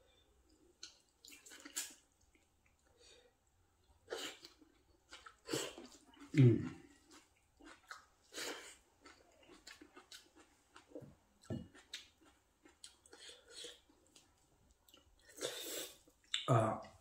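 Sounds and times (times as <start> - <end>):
faint chewing and mouth sounds: 0.1 - 17.0.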